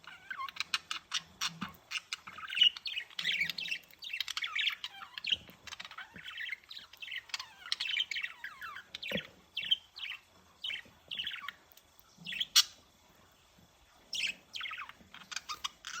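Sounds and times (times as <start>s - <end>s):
budgerigar warbling and chirping: 0.0s - 11.6s, 14.2s - 16.0s.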